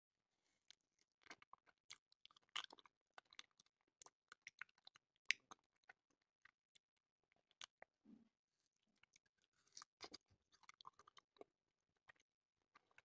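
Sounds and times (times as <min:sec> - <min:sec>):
chewing frozen ice cream bar: 0:00.6 - 0:08.0, 0:08.8 - 0:13.0.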